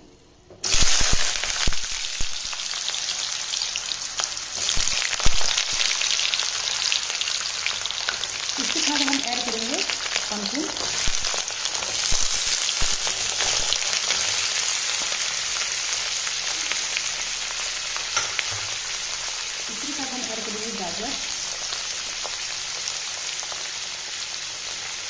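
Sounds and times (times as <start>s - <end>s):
vegetables sizzling in oil: 0.6s - 25.0s.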